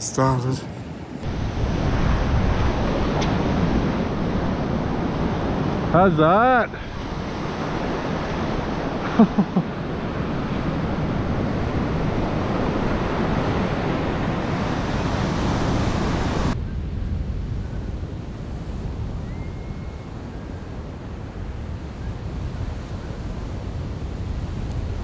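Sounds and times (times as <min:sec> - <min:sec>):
wind buffeting the microphone: 0:01.2 - 0:06.1, 0:09.7 - 0:25.0
surf breaking on a beach: 0:01.2 - 0:25.0.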